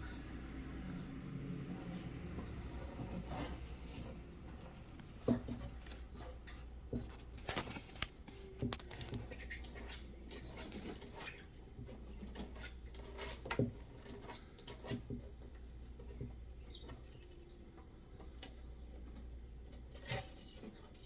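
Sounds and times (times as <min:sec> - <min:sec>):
scratching and light knocks: 0:00.1 - 0:21.0.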